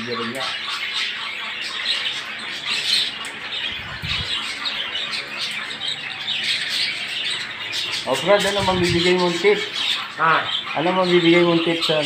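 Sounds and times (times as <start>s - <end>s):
budgerigars chattering and squawking: 0.0s - 12.0s.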